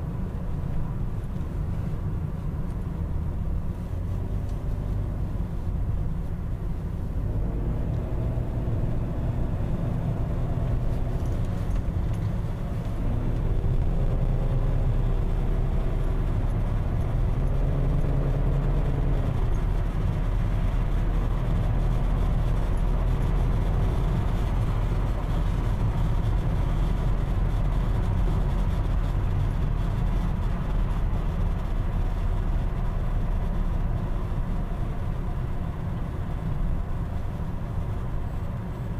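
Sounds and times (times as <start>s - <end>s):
car road and drivetrain rumble: 0.0s - 38.9s.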